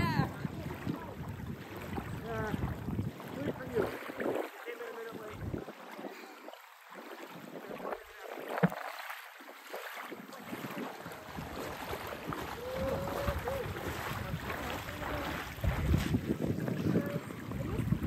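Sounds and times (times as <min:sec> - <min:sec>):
wind buffeting microphone: 0:00.0 - 0:08.8, 0:10.1 - 0:18.0
lake waves lapping at shore: 0:00.0 - 0:18.0.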